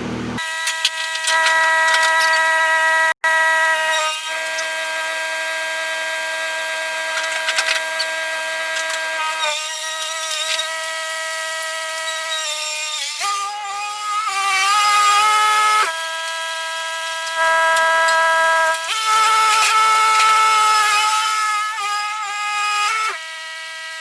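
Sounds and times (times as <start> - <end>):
machine whining: 0.0 - 24.0.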